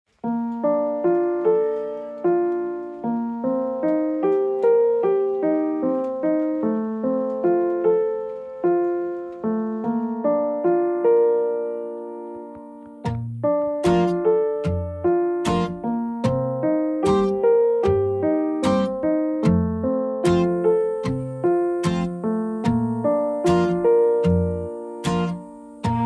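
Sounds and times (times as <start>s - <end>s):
gentle piano melody: 0.1s - 26.0s.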